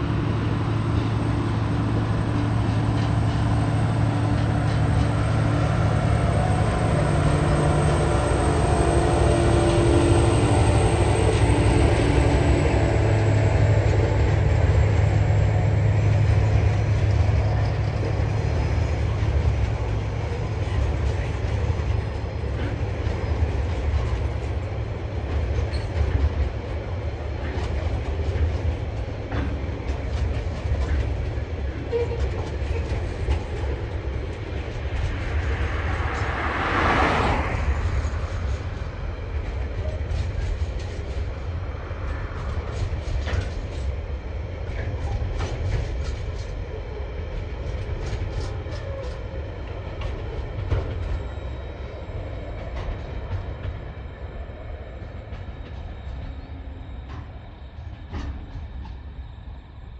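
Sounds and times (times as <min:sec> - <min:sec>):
locomotive engine drone and whine: 0:00.0 - 0:59.9.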